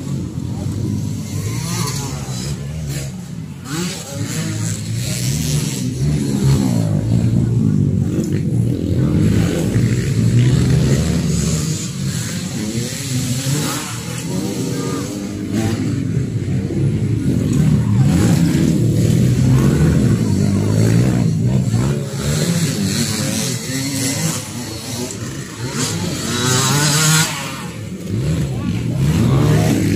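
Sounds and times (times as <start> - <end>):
motocross bike engines revving: 0.0 - 29.9.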